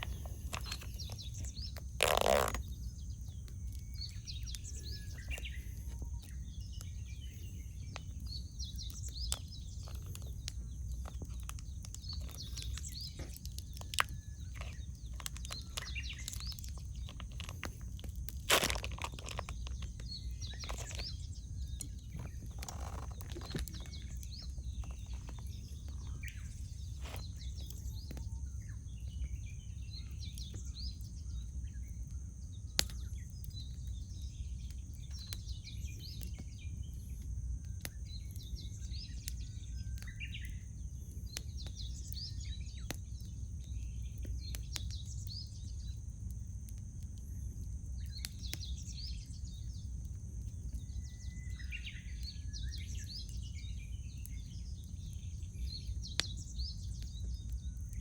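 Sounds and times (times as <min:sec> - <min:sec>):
campfire crackling: 0:00.0 - 0:58.0
small birds chirping: 0:00.0 - 0:58.0.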